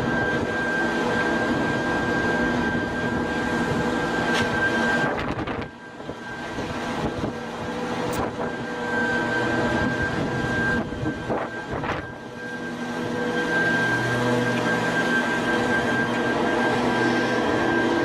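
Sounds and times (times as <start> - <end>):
heavy machine engine droning: 0.0 - 18.0.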